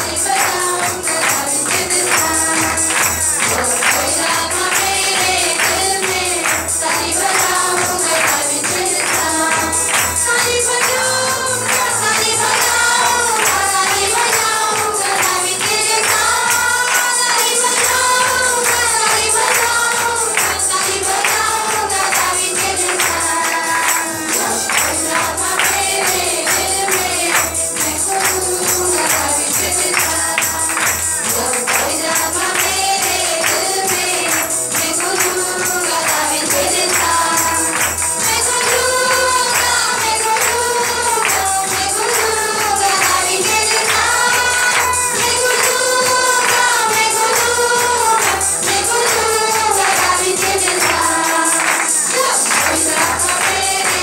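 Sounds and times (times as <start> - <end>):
backing music with steady beat: 0.0 - 54.0
tambourine jingles: 0.0 - 54.0
woman singing into microphone: 0.0 - 54.0.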